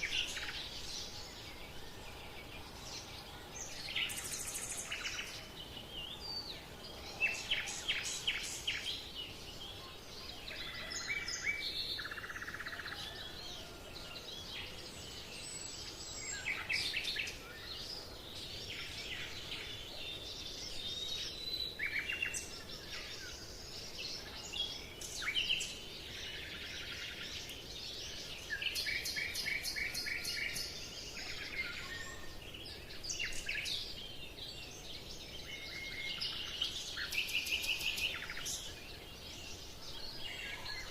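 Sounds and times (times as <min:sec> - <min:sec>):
faint background hiss: 0:00.0 - 0:40.9
songbirds chirping and trilling: 0:00.0 - 0:40.9.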